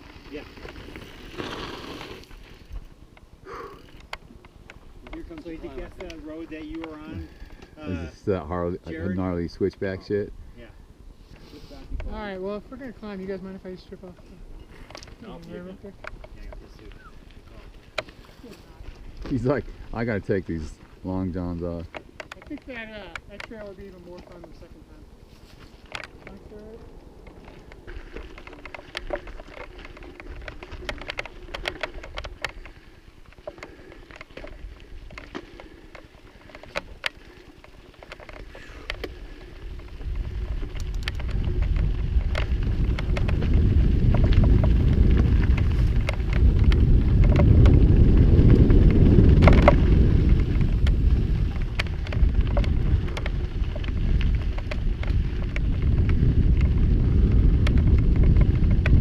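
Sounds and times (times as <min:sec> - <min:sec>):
bike clicks and rattles: 0:00.0 - 0:10.0, 0:11.9 - 0:59.0
wind buffeting microphone: 0:02.4 - 0:59.0.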